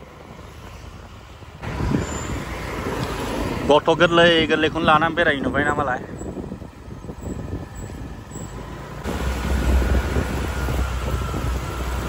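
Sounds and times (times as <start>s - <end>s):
vehicle engine and road rumble: 0.0s - 12.0s
wind buffeting microphone: 0.0s - 12.0s.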